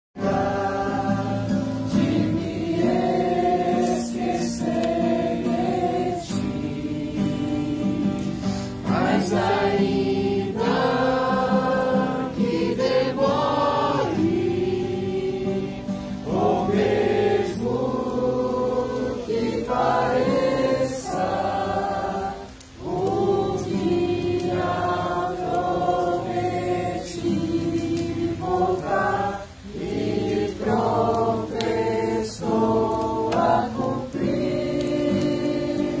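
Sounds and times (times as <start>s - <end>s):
choir singing: 0.2s - 36.0s.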